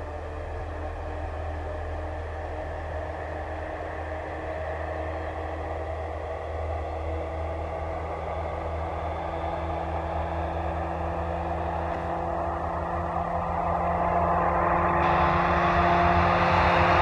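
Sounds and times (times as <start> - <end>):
turboprop propeller drone: 0.0 - 17.0.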